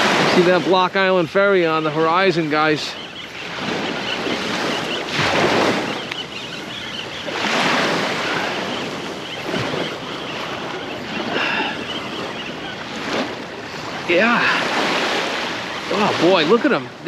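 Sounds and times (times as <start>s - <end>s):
surf washing up beach: 0.0s - 17.0s
wind buffeting microphone: 0.0s - 17.0s.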